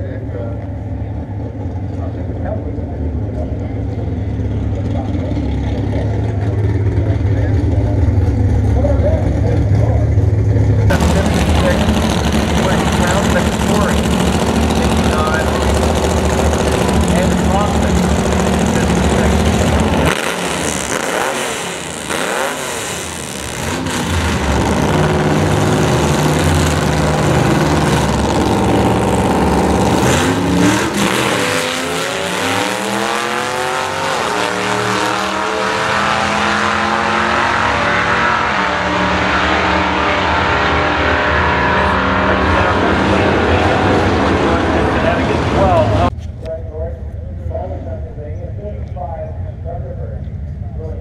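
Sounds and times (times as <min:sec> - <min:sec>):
drag car engines revving: 0:00.0 - 0:51.0.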